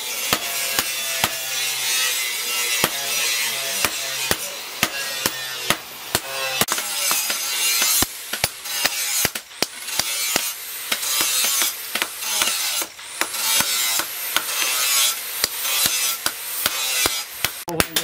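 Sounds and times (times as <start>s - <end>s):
hammer striking metal on anvil: 0.1s - 18.0s.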